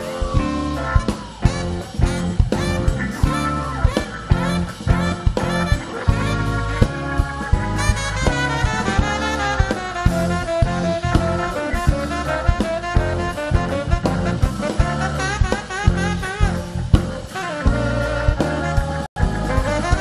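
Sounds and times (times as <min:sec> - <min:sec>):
drum kit: 0:00.0 - 0:20.0
electric bass: 0:00.0 - 0:20.0
saxophone melody: 0:00.0 - 0:20.0.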